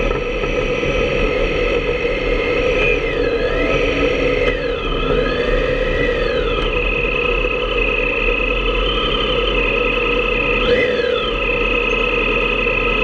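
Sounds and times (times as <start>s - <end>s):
motorcycle engine at speed: 0.0s - 13.0s.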